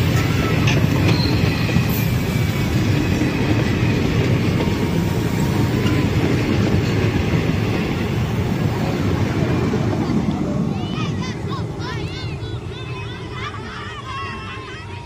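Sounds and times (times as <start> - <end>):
train wheels rumbling on rail: 0.0 - 14.4.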